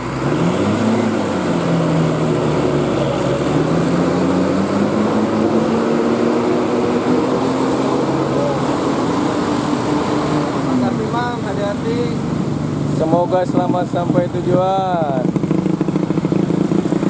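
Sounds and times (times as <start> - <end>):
diesel bus engine accelerating: 0.0 - 17.0.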